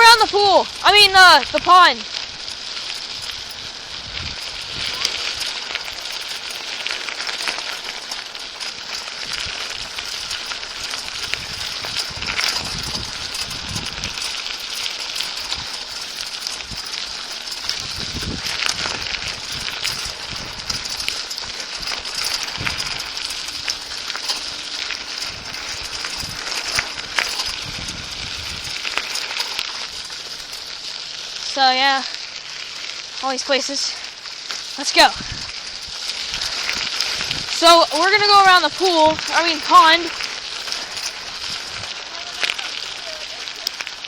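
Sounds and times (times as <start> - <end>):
bicycle tyre and road noise: 0.0 - 44.0
clicks and rattles: 0.0 - 44.0.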